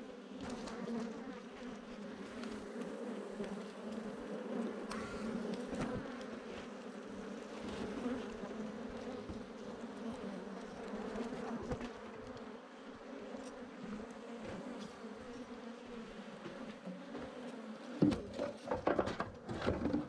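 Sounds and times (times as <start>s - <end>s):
bees buzzing: 0.1s - 20.0s.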